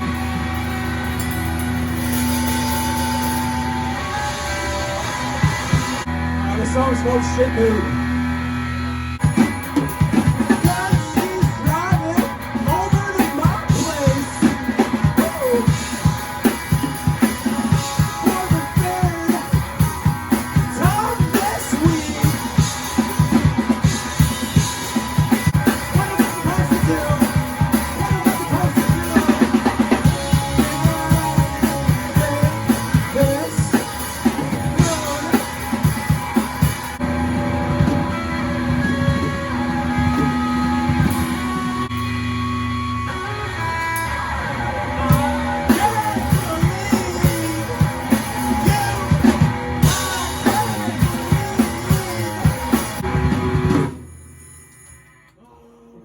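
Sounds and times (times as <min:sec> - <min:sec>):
drum kit beat: 0:00.0 - 0:06.2, 0:08.3 - 0:42.2, 0:45.1 - 0:54.1
electric guitar: 0:00.0 - 0:55.3.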